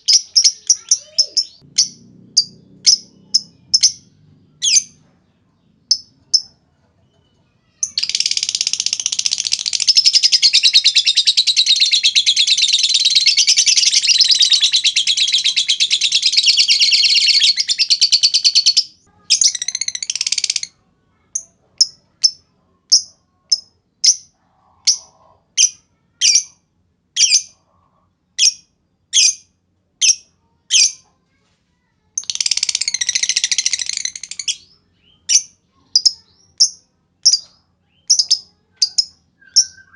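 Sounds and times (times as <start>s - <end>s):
lovebird chirping and trilling: 0.0s - 6.6s, 7.6s - 26.6s, 27.2s - 27.6s, 28.4s - 31.0s, 32.2s - 39.9s.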